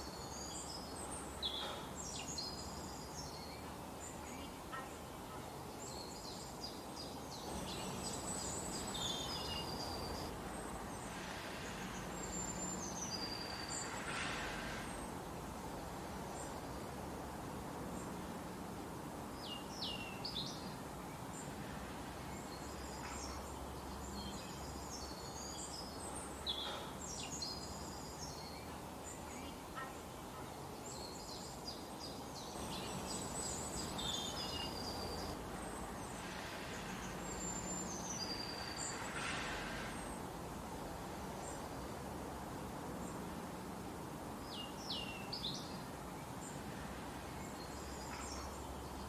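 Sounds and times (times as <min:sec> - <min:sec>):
songbirds chirping and trilling: 0:00.0 - 0:18.4, 0:19.2 - 0:43.6, 0:44.2 - 0:49.0
steady background hiss: 0:00.0 - 0:49.0.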